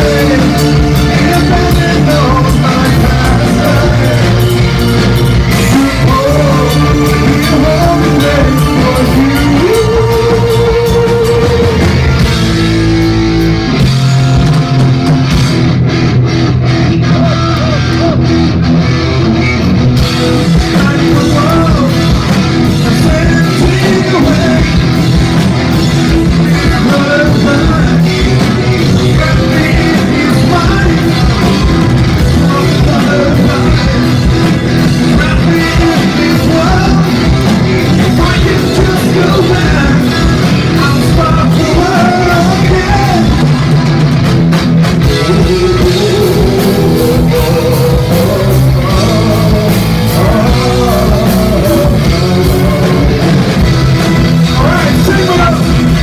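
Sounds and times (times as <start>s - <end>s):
male lead singer: 0.0s - 56.0s
rock band playing live: 0.0s - 56.0s.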